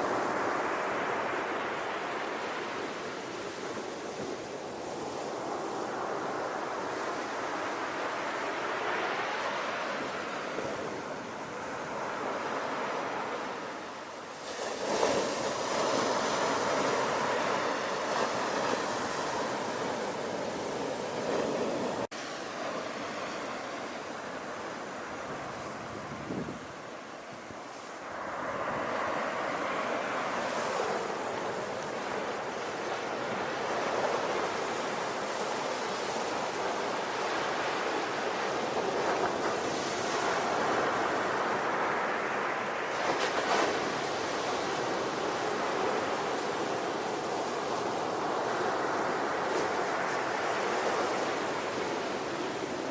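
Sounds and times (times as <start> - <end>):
sea waves breaking on shore: 0.0 - 52.9.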